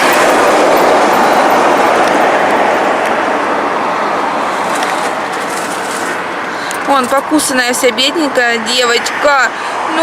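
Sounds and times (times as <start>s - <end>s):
highway traffic passing: 0.0s - 10.0s.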